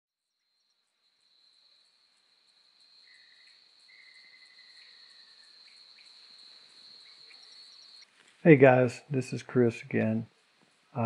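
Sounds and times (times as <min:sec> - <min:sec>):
insects trilling: 0:00.2 - 0:11.0
lower steady insect tone: 0:00.2 - 0:11.0
soft high insect pulses: 0:00.3 - 0:11.0.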